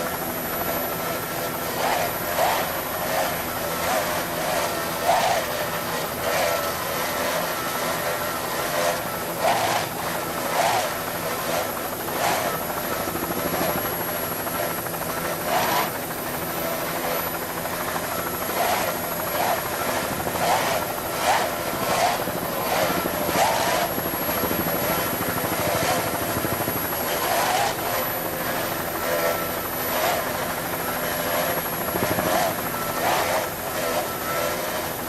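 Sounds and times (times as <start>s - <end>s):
engine drone with short surges: 0.0s - 35.0s.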